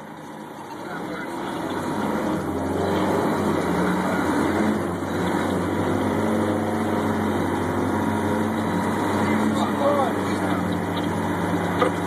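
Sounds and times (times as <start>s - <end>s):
fire engine running: 0.0s - 12.0s.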